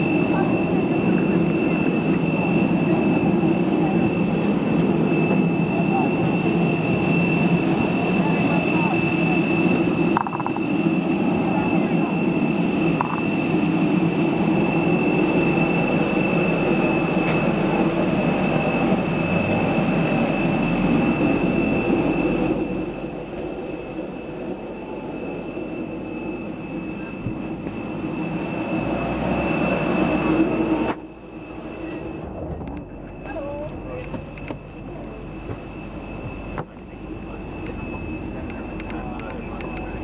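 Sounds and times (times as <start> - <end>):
jet aircraft rumble and whine: 0.0 - 40.0.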